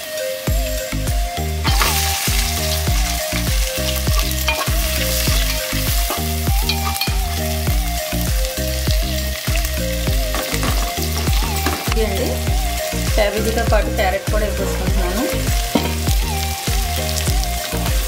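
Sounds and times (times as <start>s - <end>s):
background music with beat: 0.0s - 18.0s
onions sizzling in hot oil: 0.0s - 18.0s.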